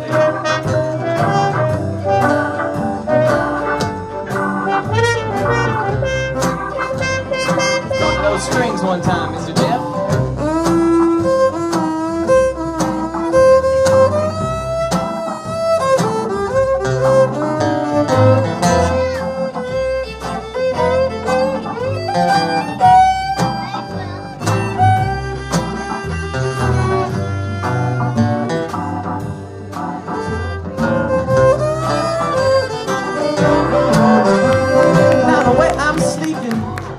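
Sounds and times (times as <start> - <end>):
fiddles playing blues melody: 0.0 - 36.9
rhythm section: 0.0 - 36.9
upright bass: 0.0 - 36.9.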